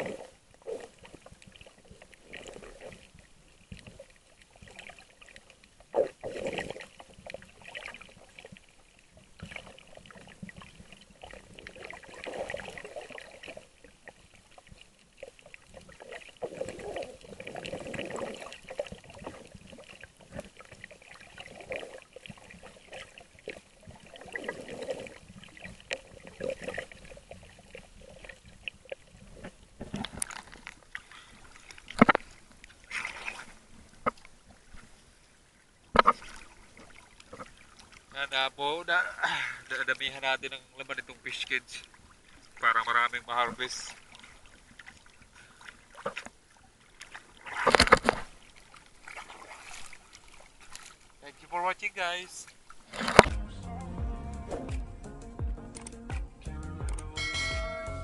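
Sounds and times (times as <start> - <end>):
water sloshing and trickling: 0.0 - 53.4.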